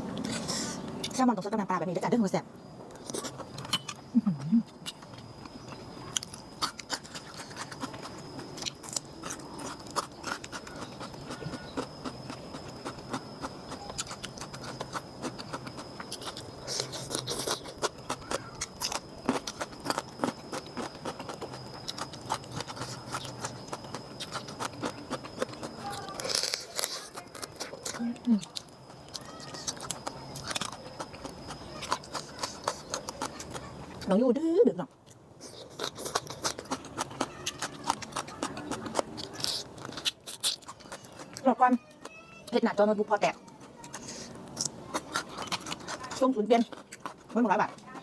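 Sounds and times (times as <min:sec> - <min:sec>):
chewing clicks and smacks: 0:04.8 - 0:34.1, 0:35.0 - 0:42.1, 0:43.5 - 0:48.0.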